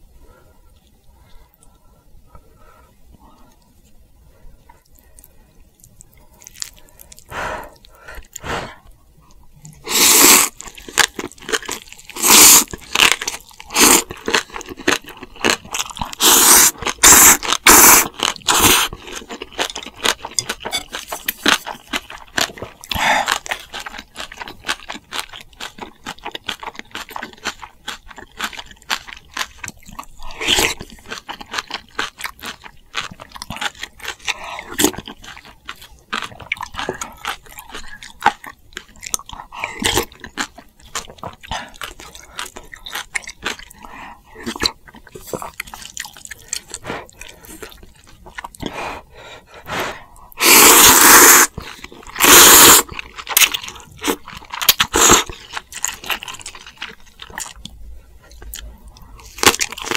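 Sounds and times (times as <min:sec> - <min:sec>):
crunchy chewing: 0:04.6 - 0:08.4, 0:09.3 - 0:59.9.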